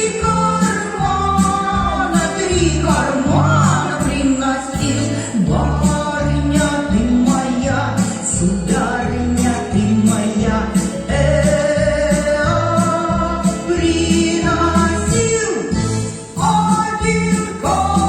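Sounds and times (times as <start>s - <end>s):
music with singing: 0.0s - 18.0s
steady bass beat: 0.2s - 18.0s.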